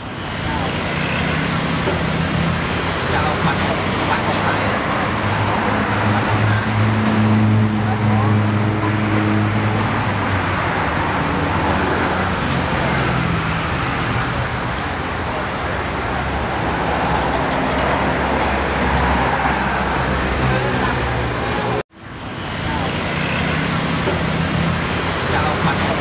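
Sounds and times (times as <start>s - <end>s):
street noise: 0.0s - 26.0s.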